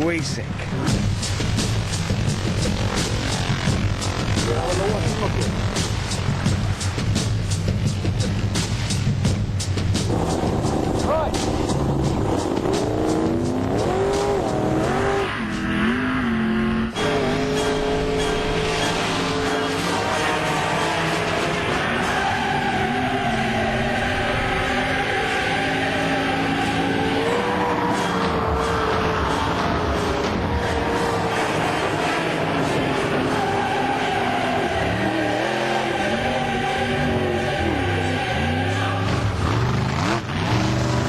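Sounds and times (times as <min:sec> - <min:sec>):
background music: 0:00.0 - 0:41.0
engine at full throttle: 0:00.0 - 0:41.0.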